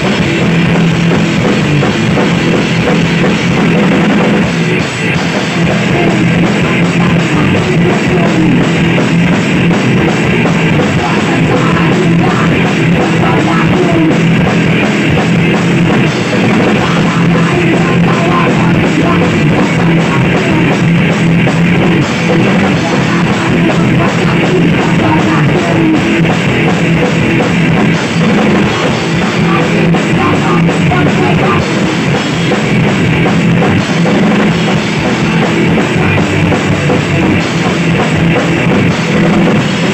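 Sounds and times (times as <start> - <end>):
punk band playing live: 0.0 - 39.9.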